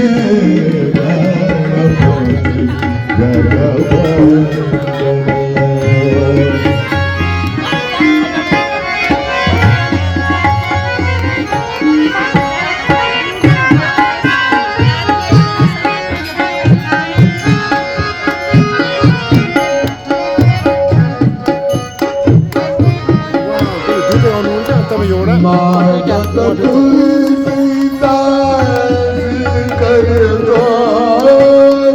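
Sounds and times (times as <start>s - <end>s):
sustained melody notes: 0.0s - 31.9s
tabla rhythm: 0.0s - 31.9s.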